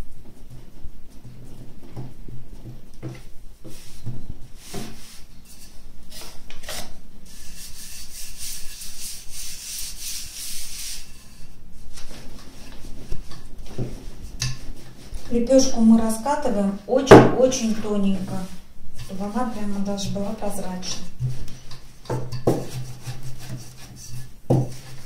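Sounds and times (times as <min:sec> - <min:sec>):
dry rubbing on rolling pin: 0:03.1 - 0:16.4, 0:17.6 - 0:25.0.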